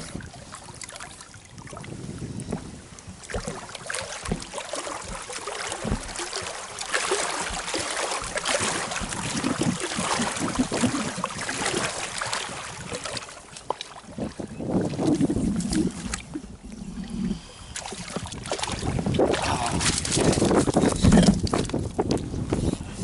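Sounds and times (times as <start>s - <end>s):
water lapping against a boat: 0.0s - 23.0s
wind on microphone: 0.0s - 23.0s.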